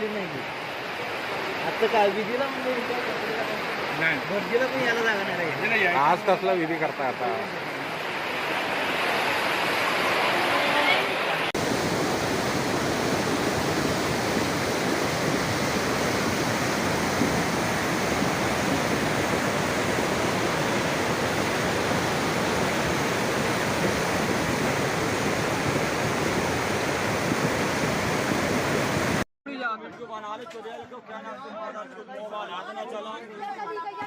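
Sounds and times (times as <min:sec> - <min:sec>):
floodwater rushing: 0:00.0 - 0:29.2.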